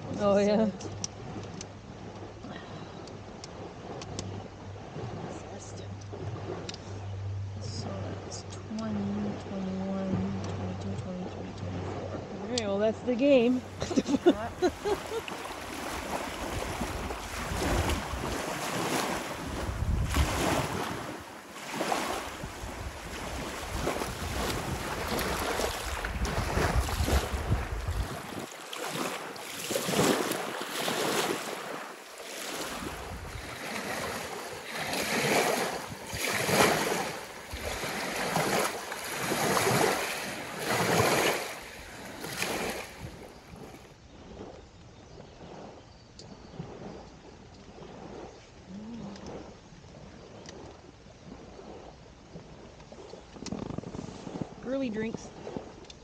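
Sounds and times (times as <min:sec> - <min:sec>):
small waves breaking on shore: 0:00.0 - 0:56.0
wind buffeting microphone: 0:00.0 - 0:56.0.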